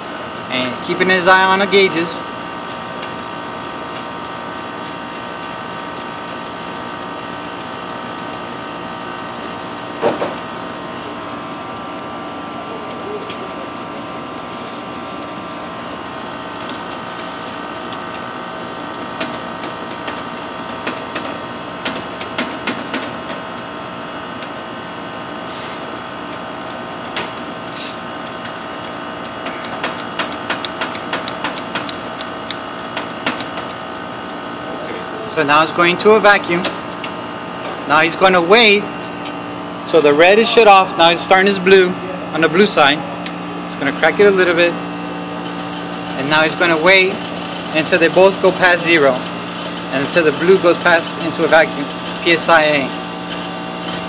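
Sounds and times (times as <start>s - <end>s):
compressor and fan humming: 0.0s - 54.0s.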